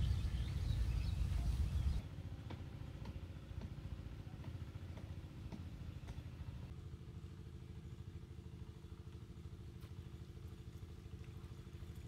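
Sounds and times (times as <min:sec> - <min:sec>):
faint distant engine hum: 0:00.0 - 0:12.0.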